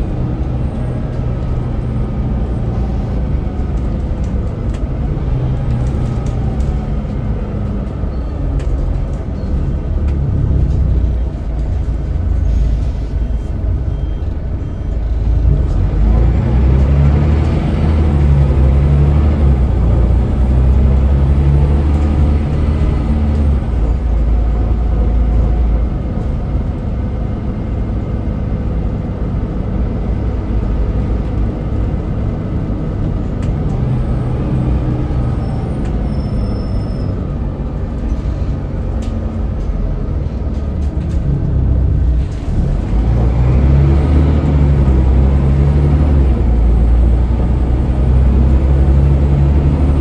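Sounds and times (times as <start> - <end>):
bus diesel engine running: 0.0 - 50.0.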